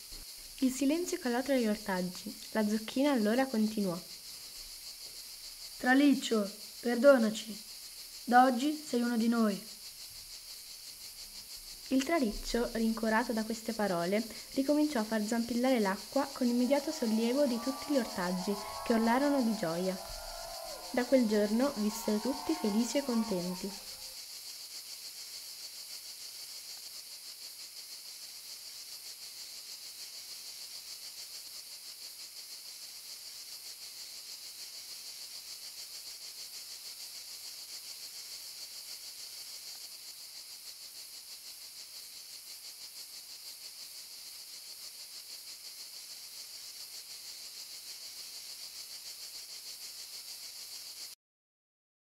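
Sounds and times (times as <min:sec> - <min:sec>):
cicadas chirring: 0:00.0 - 0:51.2.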